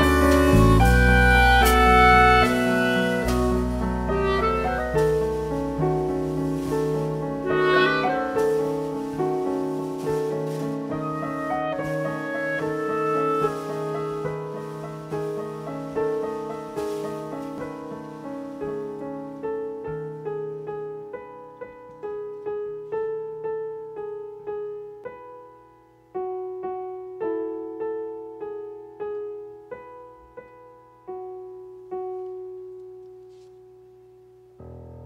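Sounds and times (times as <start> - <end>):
keyboard piano melody: 0.0 - 35.0
low piano notes: 0.0 - 35.0.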